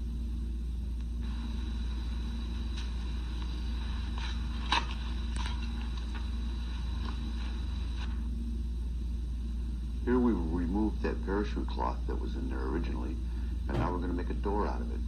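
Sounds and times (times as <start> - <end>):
low hum with faint crackle: 0.0 - 15.0.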